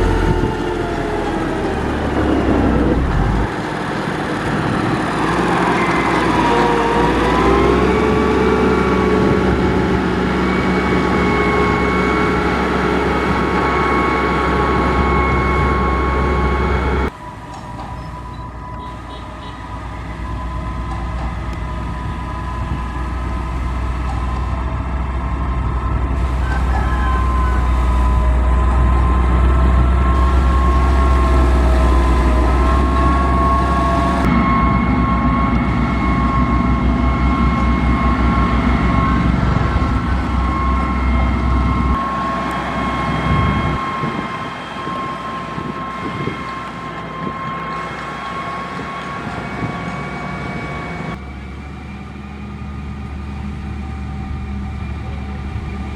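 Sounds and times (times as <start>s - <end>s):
construction machine engine rumble: 0.0s - 55.9s
high mechanical whine: 0.0s - 55.9s.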